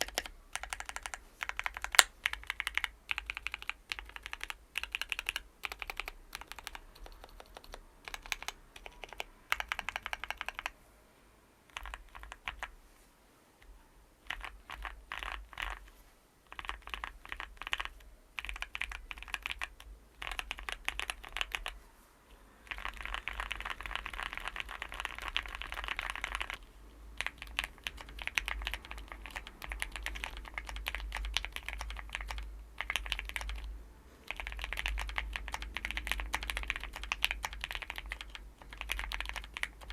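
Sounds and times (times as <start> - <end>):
mechanical keyboard typing: 0.0 - 10.8, 11.7 - 12.7, 14.2 - 15.8, 16.5 - 21.8, 22.6 - 33.7, 34.3 - 39.9.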